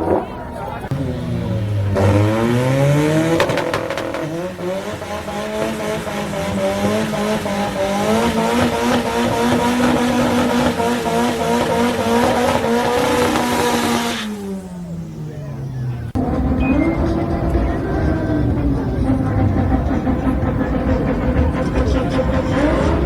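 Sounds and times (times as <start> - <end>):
race car engine at full throttle: 0.0 - 23.0.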